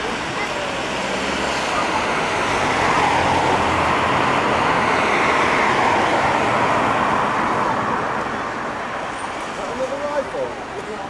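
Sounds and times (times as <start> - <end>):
tyres on wet road: 0.0 - 11.0.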